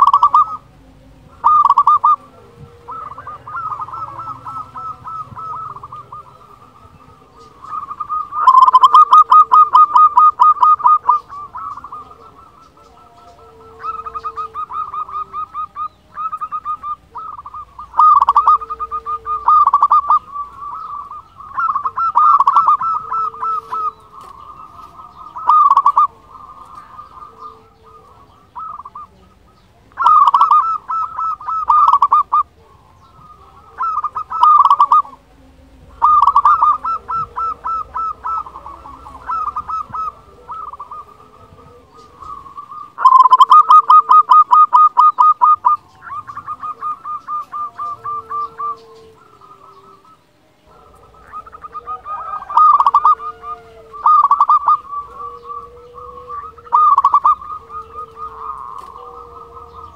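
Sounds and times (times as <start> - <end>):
dove rattling coos: 0.0 - 59.9.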